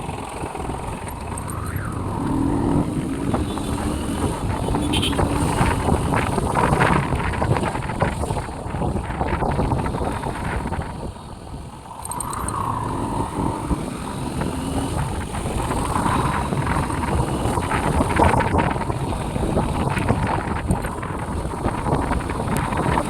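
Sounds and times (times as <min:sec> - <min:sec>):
motorcycle engine and road noise: 0:00.0 - 0:23.0
wind rushing over microphone: 0:00.0 - 0:23.0.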